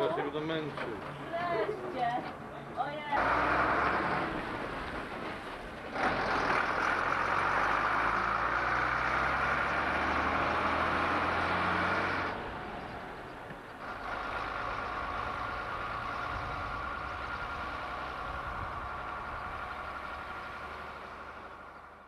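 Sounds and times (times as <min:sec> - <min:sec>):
bus diesel engine pulling away: 0:03.1 - 0:22.0.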